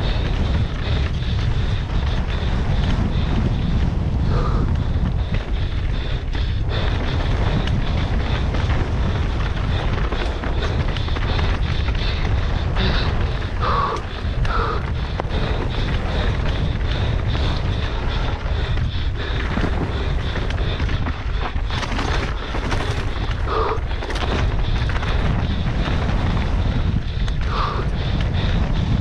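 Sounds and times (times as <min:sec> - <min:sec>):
mountain bike rattling: 0:00.0 - 0:29.0
wind buffeting microphone: 0:00.0 - 0:29.0.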